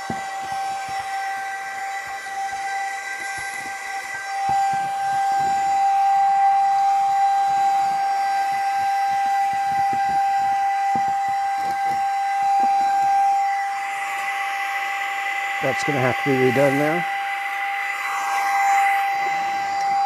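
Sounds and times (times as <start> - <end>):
handheld vacuum whining: 0.0 - 20.0.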